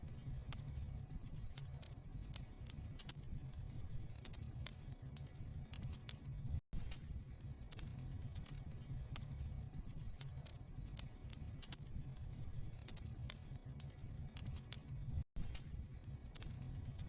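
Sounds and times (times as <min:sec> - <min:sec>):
fire crackling and popping: 0:00.1 - 0:17.0.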